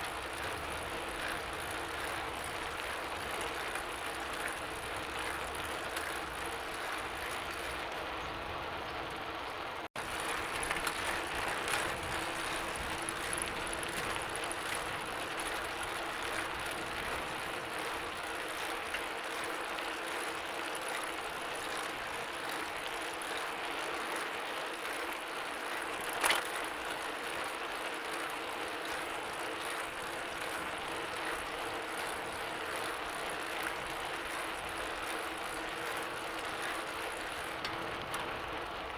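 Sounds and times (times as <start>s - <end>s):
bicycle whirring: 0.0s - 38.9s.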